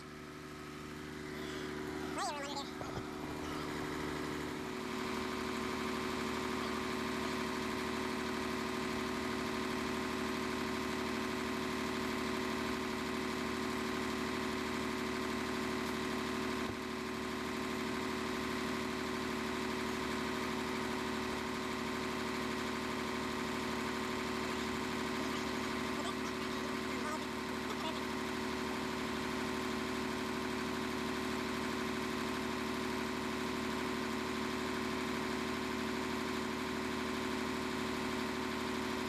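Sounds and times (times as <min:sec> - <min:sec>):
engine idling: 0:00.0 - 0:39.0.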